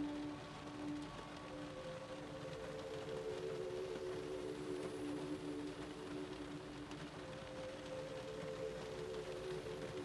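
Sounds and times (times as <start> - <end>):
rain pattering on a car: 0.0 - 10.0.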